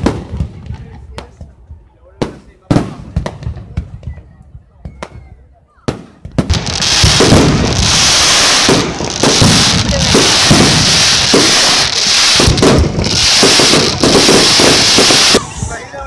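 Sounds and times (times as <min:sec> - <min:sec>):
fireworks bursts and crackling: 0:00.0 - 0:16.0.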